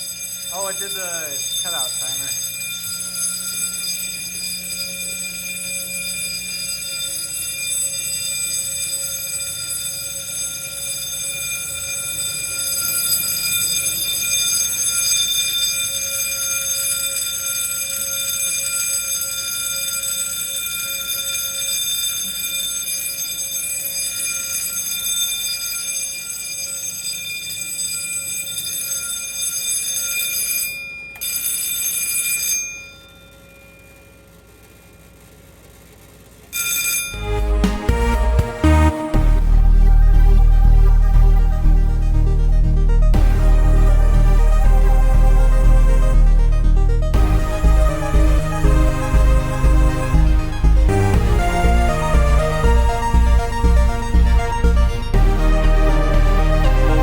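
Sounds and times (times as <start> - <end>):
fire alarm horns: 0.0 - 33.0, 36.5 - 57.0.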